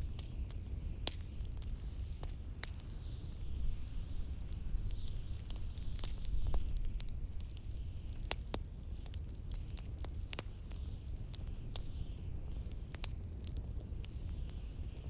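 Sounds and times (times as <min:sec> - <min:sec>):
fire pops: 0:00.0 - 0:15.0
wood fire crackling: 0:00.0 - 0:15.0.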